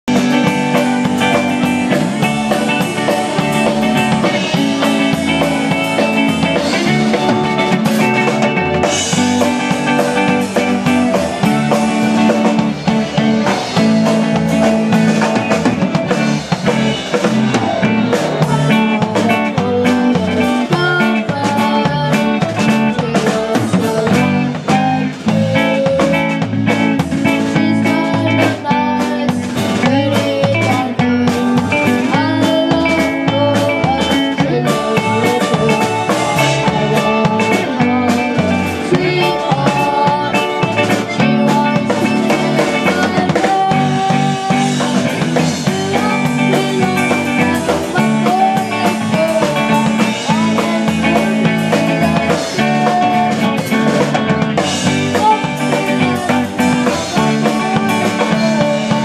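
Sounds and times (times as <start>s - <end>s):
drum kit beat: 0.0s - 59.0s
electric bass: 0.0s - 59.0s
electric guitar: 0.0s - 59.0s.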